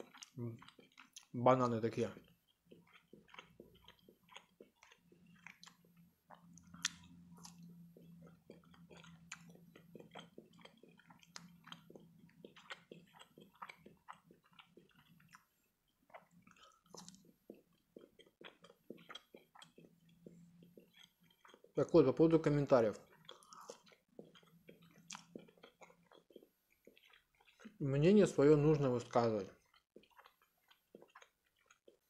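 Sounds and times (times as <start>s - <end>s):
wet mouth chewing clicks: 0.0s - 21.8s, 22.4s - 32.0s
low steady hum: 0.0s - 29.6s.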